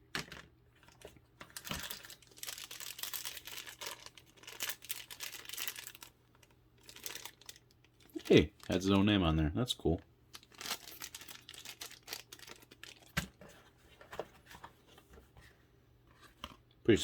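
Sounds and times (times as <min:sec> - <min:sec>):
packaging rustling and crinkling: 0:00.2 - 0:09.1, 0:10.3 - 0:15.3.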